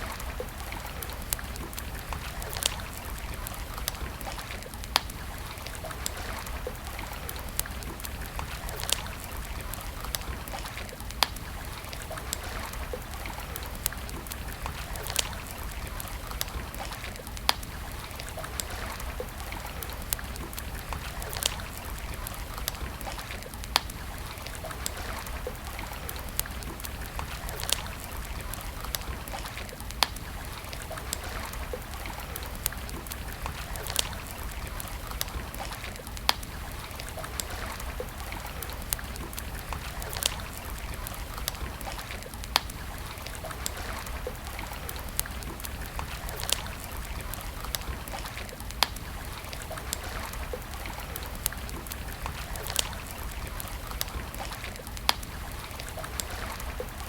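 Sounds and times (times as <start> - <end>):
campfire crackling and hissing: 0.0 - 57.0.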